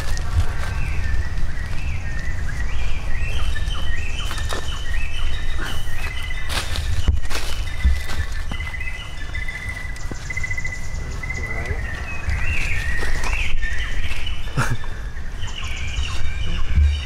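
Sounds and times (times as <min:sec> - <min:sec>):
bird trill: 0:00.0 - 0:17.0
low microphone rumble: 0:00.0 - 0:17.0
small birds chirping: 0:00.0 - 0:17.0.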